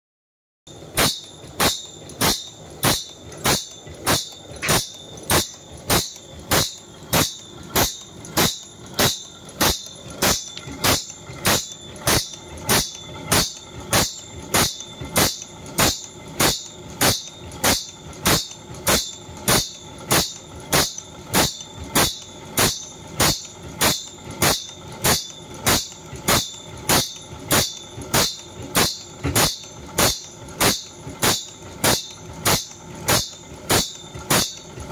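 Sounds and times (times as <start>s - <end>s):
grinding wheel sharpening saw blade: 0.7s - 34.9s.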